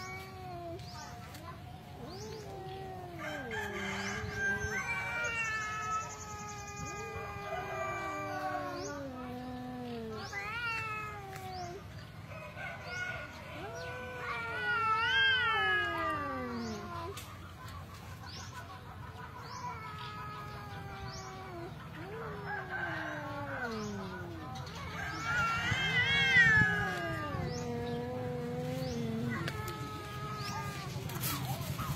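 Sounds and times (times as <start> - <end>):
cats caterwauling: 0.0 - 11.9, 12.8 - 17.3, 19.4 - 31.9.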